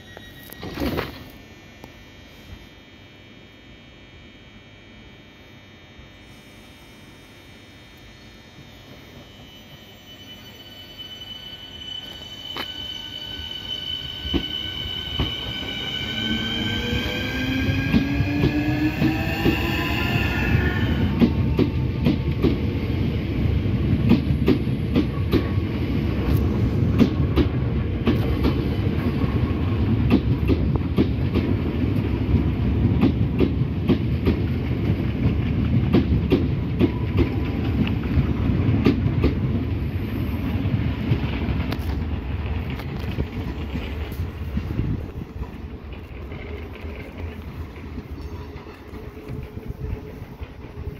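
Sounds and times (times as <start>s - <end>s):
train rumbling past: 8.7s - 50.9s.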